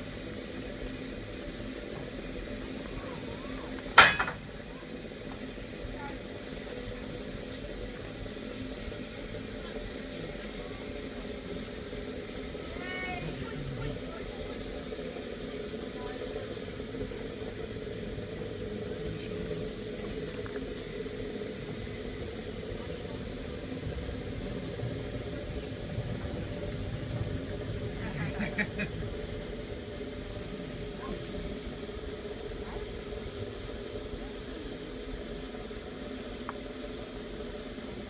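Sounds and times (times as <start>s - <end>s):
steam hissing: 0.0s - 38.0s.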